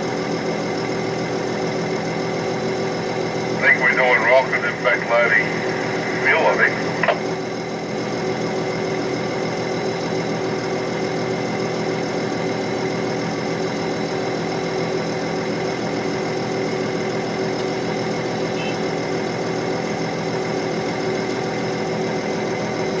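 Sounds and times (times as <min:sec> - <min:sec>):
diesel engine running steadily: 0:00.0 - 0:23.0.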